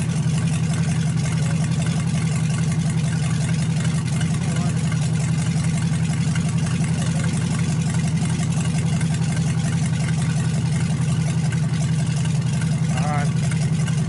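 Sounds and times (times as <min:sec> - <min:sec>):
hot rod engine idling: 0:00.0 - 0:14.0.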